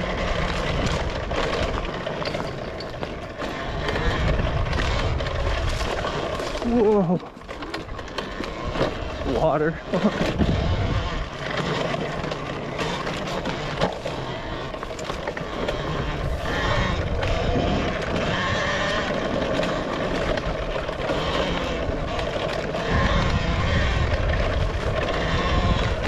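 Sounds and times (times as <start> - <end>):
bike knocking over bumps: 0.0 - 26.0
electric motor whine: 0.0 - 26.0
tyres and wind rushing: 0.0 - 26.0.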